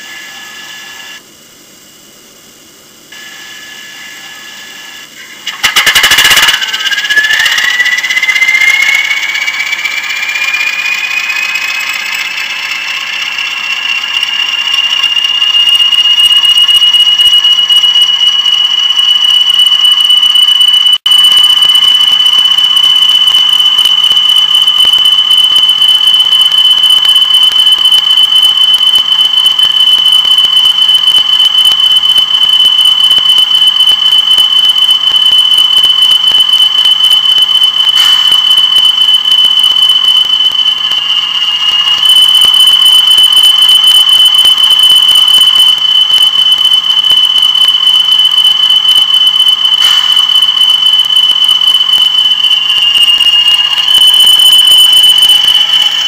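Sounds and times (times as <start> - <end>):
high-pitched electronic whine: 0.0 - 56.0.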